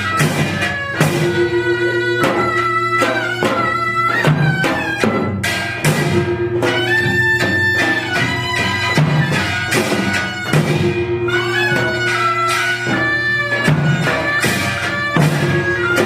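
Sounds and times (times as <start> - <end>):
double-reed wind instrument: 0.0 - 16.0
drum strokes: 0.0 - 16.0.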